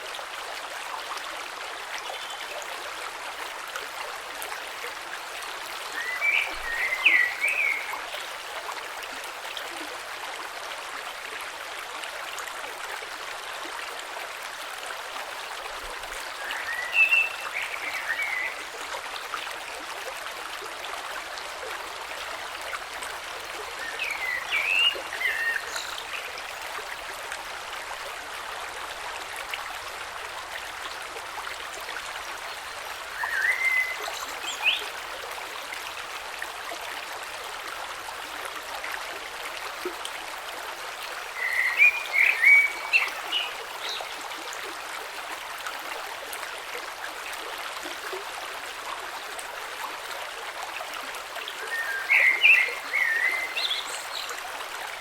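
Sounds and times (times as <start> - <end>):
creek flowing over stones: 0.0 - 55.0.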